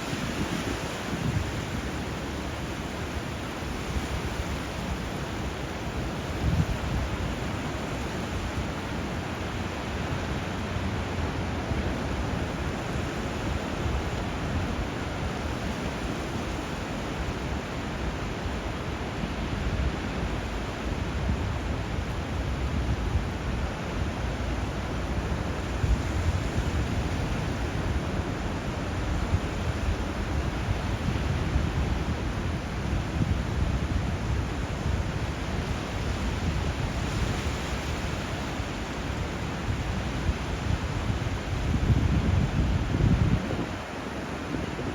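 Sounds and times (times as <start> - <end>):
river and surf rushing: 0.0 - 44.9.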